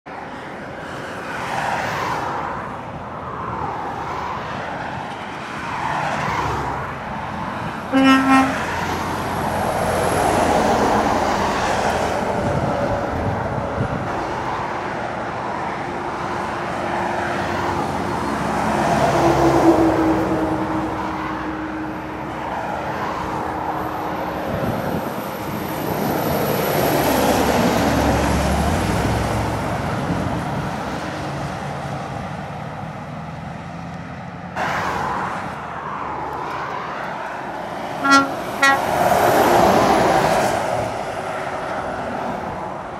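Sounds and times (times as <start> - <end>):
cars passing: 0.1 - 42.9
diesel lorries climbing uphill: 2.3 - 42.9.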